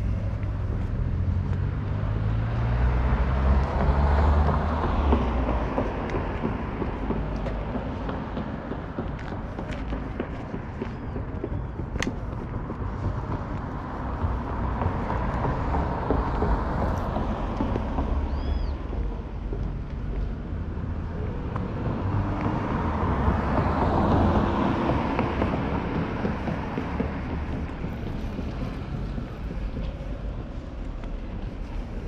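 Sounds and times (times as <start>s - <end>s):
cars passing by: 0.0s - 32.0s
low traffic rumble: 0.0s - 32.0s.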